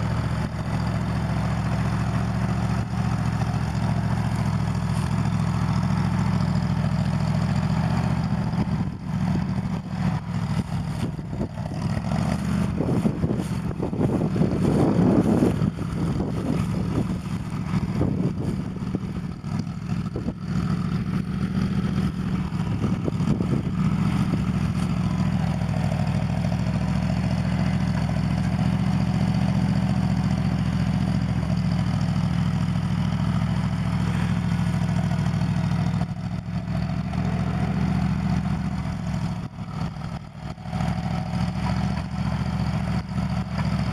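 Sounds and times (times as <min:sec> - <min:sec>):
engine running unevenly: 0:00.0 - 0:43.9.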